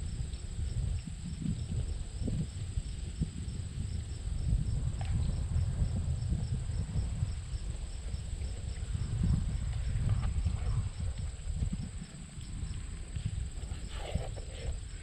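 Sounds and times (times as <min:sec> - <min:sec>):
crickets trilling: 0:00.0 - 0:15.0
wind rumble on microphone: 0:00.0 - 0:15.0.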